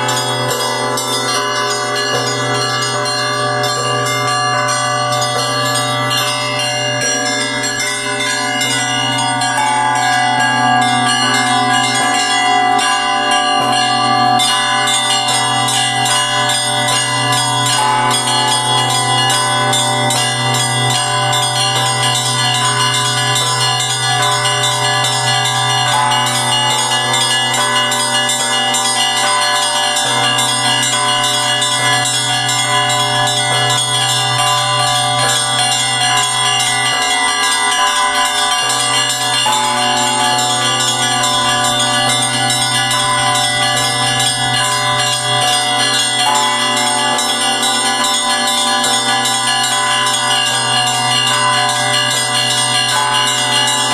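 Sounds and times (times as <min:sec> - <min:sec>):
deep hum of large bell: 0:00.0 - 0:53.9
small bells ringing fast: 0:00.0 - 0:53.9.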